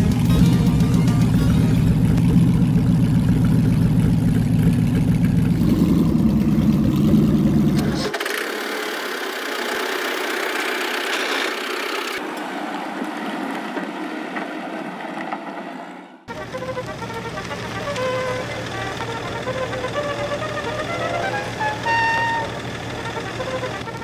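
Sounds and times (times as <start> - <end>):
engine running with deep hum: 0.0 - 15.7, 16.3 - 24.0.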